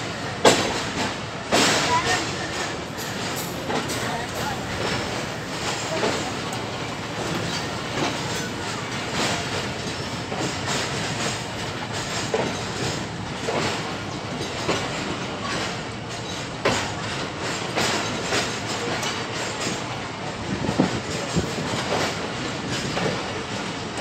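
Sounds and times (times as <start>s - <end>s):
train running gear rumble: 0.0s - 24.0s
train wheels clacking over rail joints: 0.0s - 24.0s.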